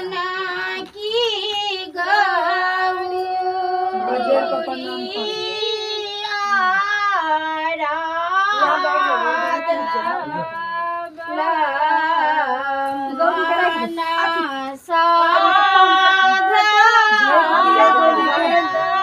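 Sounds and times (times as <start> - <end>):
women singing unaccompanied: 0.0 - 19.0.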